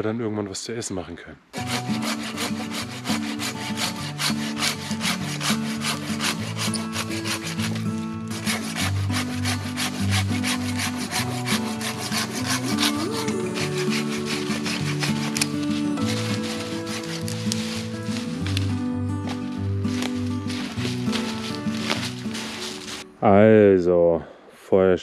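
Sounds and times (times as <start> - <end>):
background music: 1.5 - 24.3
hand saw cutting wood: 1.6 - 18.7, 19.3 - 23.0.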